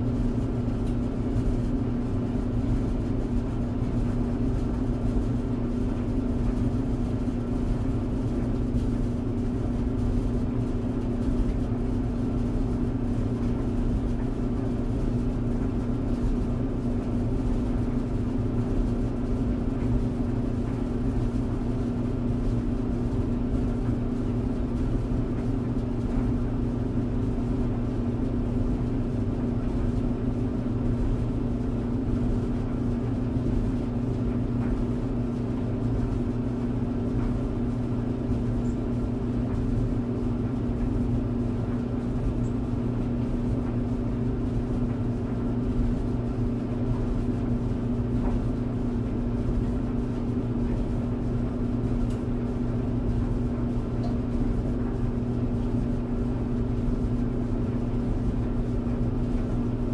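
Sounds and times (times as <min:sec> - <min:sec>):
tumble dryer running: 0:00.0 - 0:59.9.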